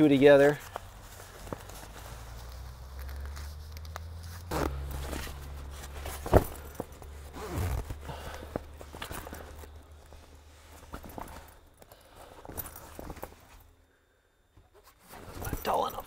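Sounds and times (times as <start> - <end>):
heavy canvas rustling: 0.0 - 13.8, 14.7 - 16.0.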